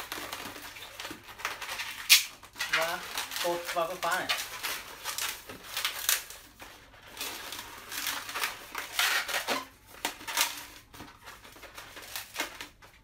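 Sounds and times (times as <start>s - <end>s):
balloons rubbing and squeaking: 0.0s - 12.4s.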